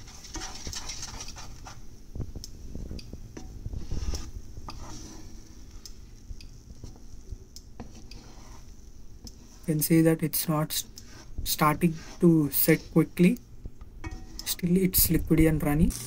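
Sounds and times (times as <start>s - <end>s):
spatula scraping frying pan: 0.0s - 1.8s, 3.4s - 13.4s, 14.0s - 15.2s
eggs sizzling faintly: 0.0s - 16.0s.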